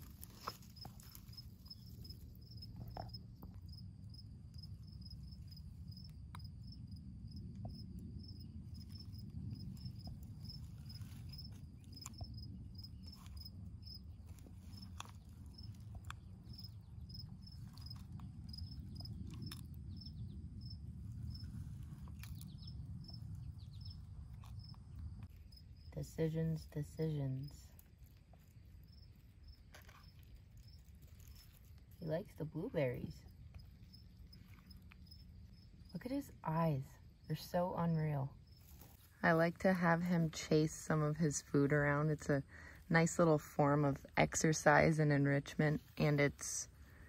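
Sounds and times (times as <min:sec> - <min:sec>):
cricket chirping: 0:00.0 - 0:39.2
low background rumble: 0:00.0 - 0:47.0.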